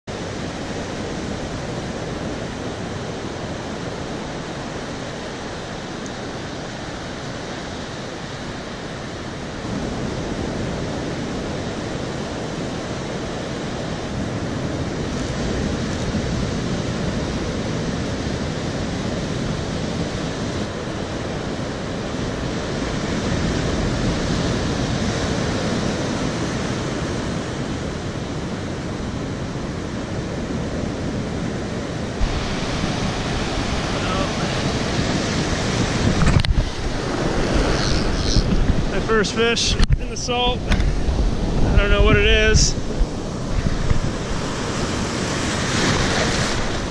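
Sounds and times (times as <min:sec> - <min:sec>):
ocean surf breaking on beach: 0:00.1 - 0:46.9.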